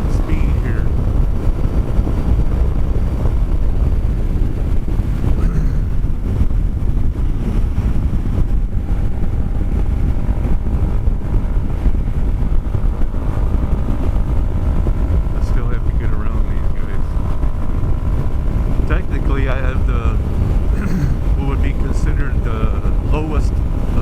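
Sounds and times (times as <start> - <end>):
wind rumbling over microphone: 0.0 - 24.0.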